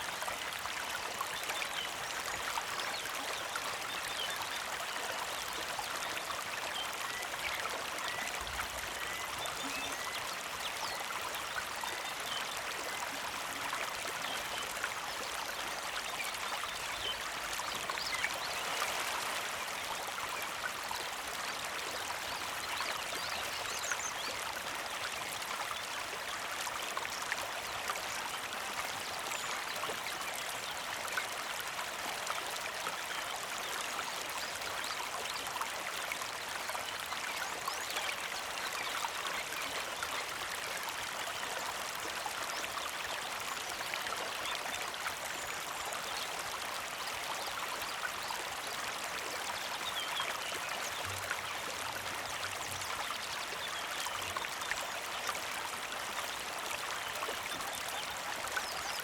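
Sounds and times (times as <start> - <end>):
creek trickling and splashing: 0.0 - 59.0.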